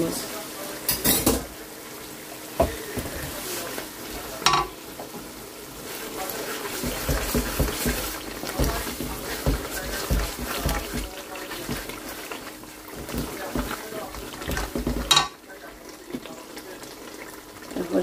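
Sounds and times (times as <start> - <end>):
frying sizzle: 0.0 - 18.0.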